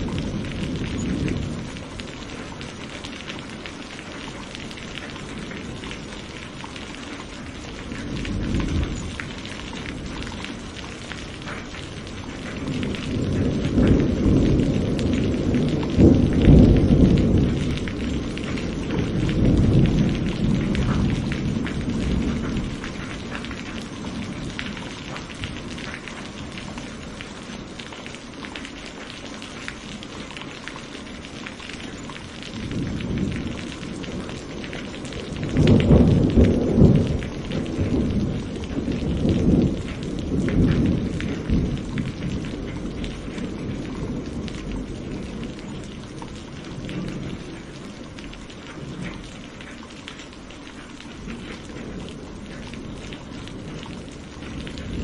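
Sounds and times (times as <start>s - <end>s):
low rumbling thunder: 0.0s - 49.7s, 51.1s - 55.0s
steady rain: 0.0s - 55.0s.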